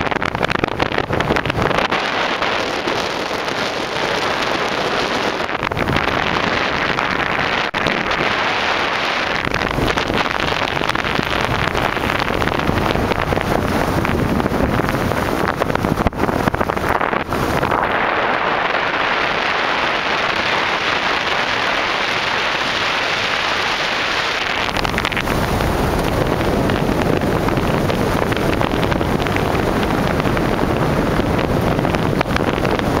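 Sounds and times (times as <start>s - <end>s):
vehicle road noise: 0.0s - 33.0s
wind rushing over microphone: 0.0s - 33.0s.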